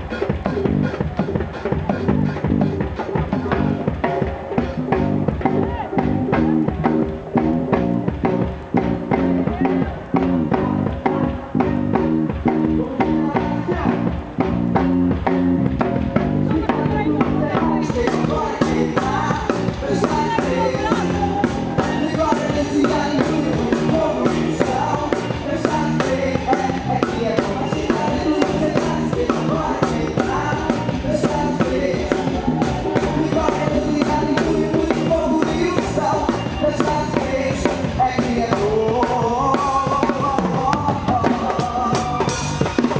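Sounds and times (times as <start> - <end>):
bass guitar: 0.0 - 42.9
drum kit beating: 0.0 - 42.9
guitar: 0.0 - 42.9
person singing: 0.0 - 42.9.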